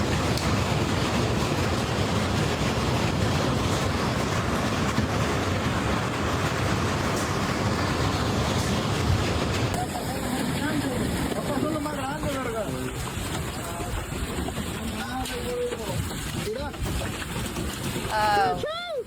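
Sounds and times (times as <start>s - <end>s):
hail and rain pounding down: 0.0s - 19.0s.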